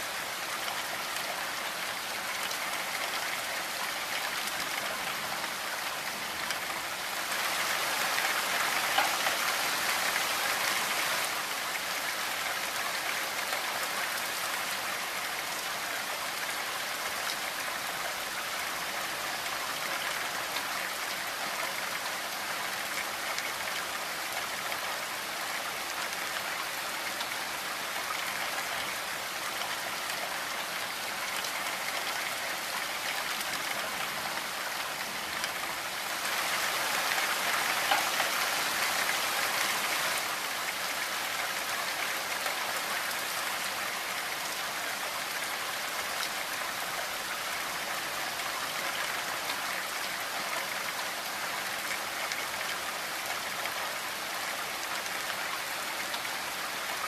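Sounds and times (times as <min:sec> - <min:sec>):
rain on a window and roof: 0:00.0 - 0:57.0.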